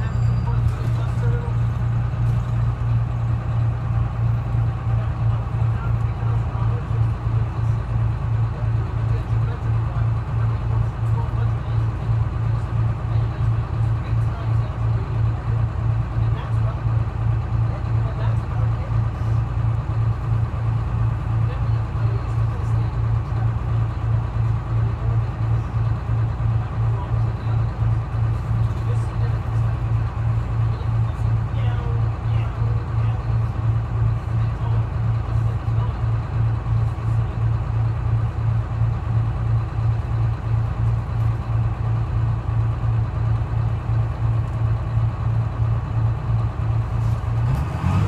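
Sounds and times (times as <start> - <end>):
bus diesel engine droning: 0.0 - 48.0.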